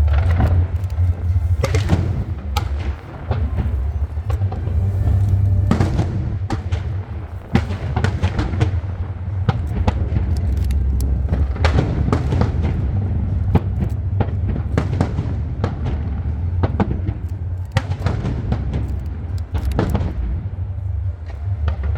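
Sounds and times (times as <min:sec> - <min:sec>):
fireworks bangs and crackles: 0:00.0 - 0:20.6
continuous low rumble: 0:00.0 - 0:21.9.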